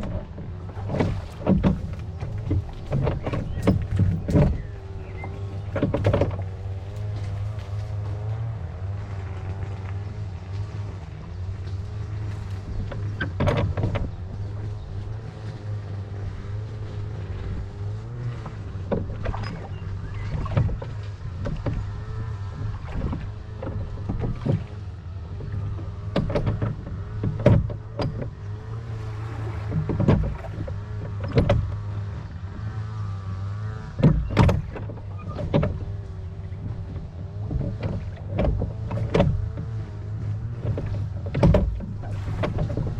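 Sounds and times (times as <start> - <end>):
low hum: 0.0 - 42.9
oars knocking and splashing: 0.0 - 42.9.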